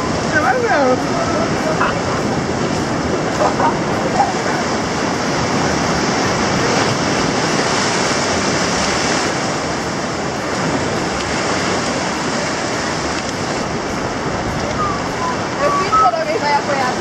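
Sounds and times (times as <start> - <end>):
waves washing against rocky shore: 0.0 - 17.0.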